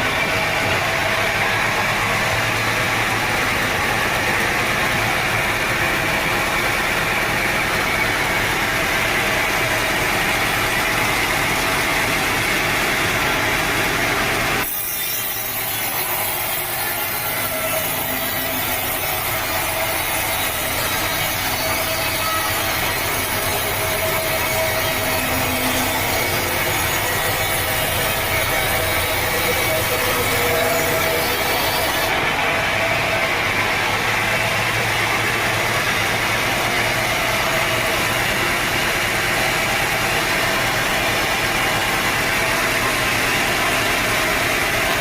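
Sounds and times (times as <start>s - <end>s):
saw cutting through log: 0.0s - 45.0s.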